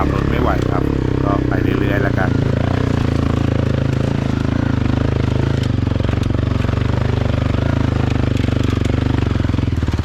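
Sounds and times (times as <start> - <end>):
off-road vehicle engine throbbing: 0.0 - 10.0.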